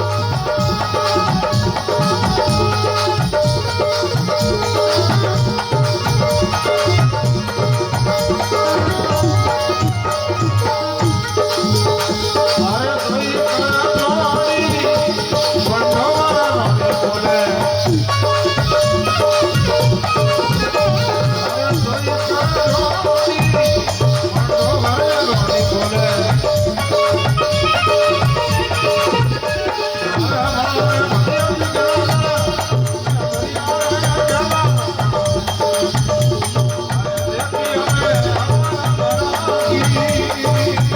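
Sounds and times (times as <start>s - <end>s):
rattling percussion: 0.0s - 40.9s
steady drum rhythm: 0.0s - 40.9s.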